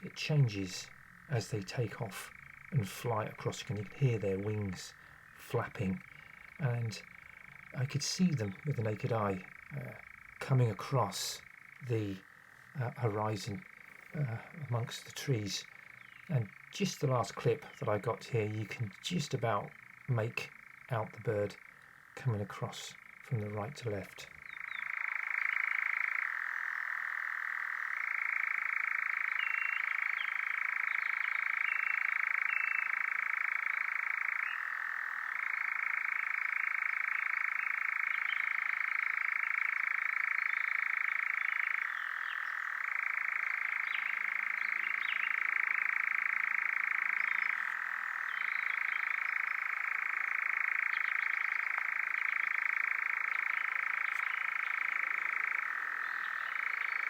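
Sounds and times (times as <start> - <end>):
nightjar churring trill: 0.0 - 57.0.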